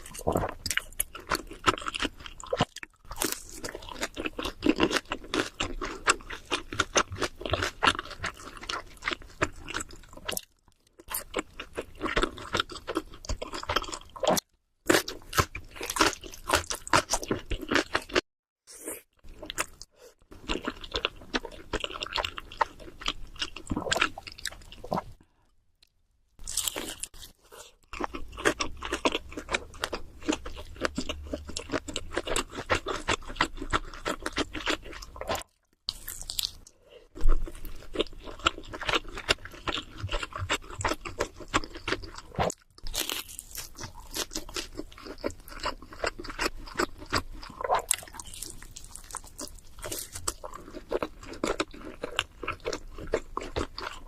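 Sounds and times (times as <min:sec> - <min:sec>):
chewing and crunching pizza: 0:00.0 - 0:54.0.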